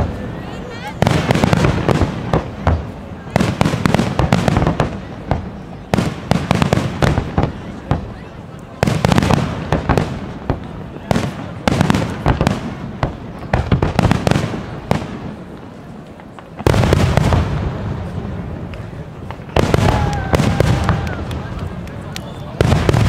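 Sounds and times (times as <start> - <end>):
firework crackle: 0.0 - 23.0
heavy firework booms: 1.0 - 8.2, 8.8 - 15.6, 16.5 - 21.5, 22.4 - 23.0.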